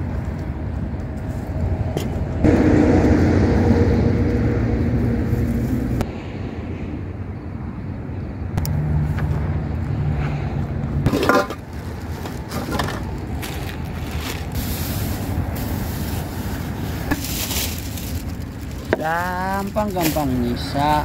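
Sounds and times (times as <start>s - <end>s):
wind noise on microphone: 0.0s - 19.1s
vehicle engine humming: 0.0s - 21.0s.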